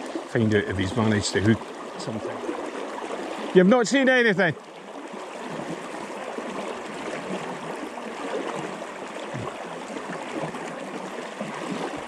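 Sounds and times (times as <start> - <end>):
river water flowing and gurgling: 0.0 - 12.0.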